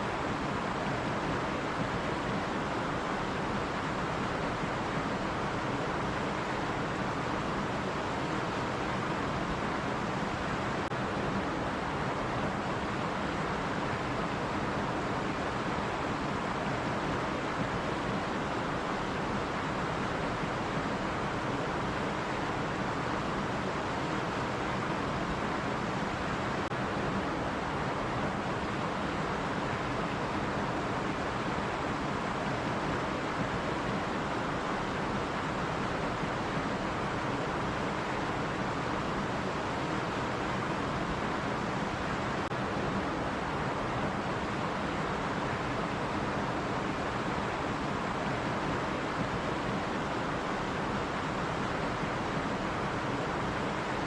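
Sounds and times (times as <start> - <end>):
stream water over rocks: 0.0 - 54.0.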